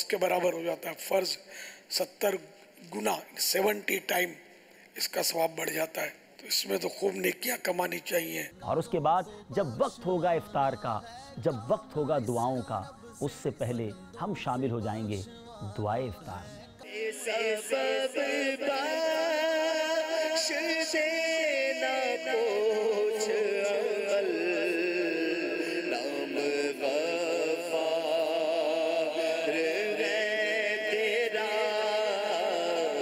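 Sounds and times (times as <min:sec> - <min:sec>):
man chanting: 0:00.0 - 0:01.4, 0:05.0 - 0:33.0.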